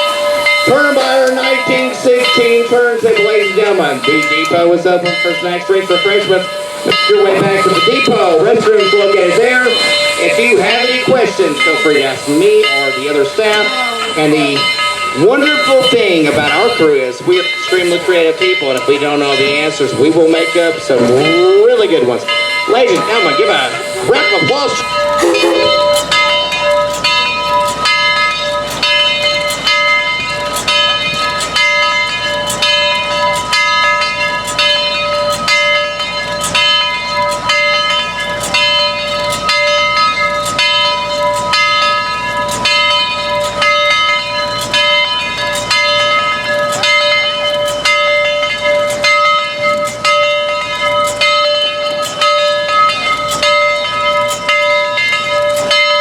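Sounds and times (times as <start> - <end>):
steam locomotive bell ringing: 0.0 - 56.0.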